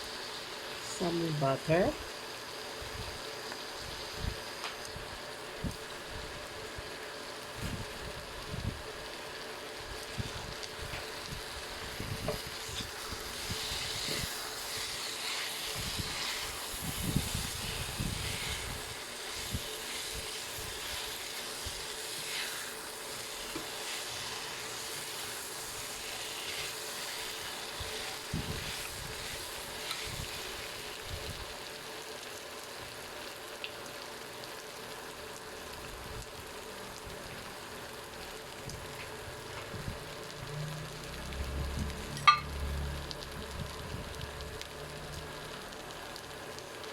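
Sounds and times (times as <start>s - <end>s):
syrup sizzling and bubbling in a pan: 0.0s - 46.9s.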